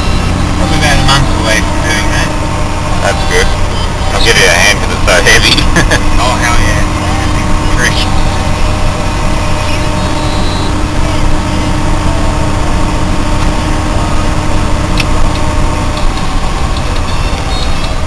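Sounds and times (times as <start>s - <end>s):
car engine low rumble: 0.0s - 18.0s.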